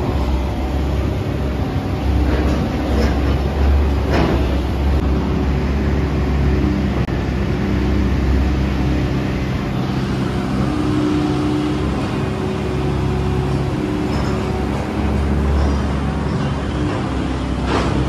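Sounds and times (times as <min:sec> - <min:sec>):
heavy machinery drone: 0:00.0 - 0:18.0.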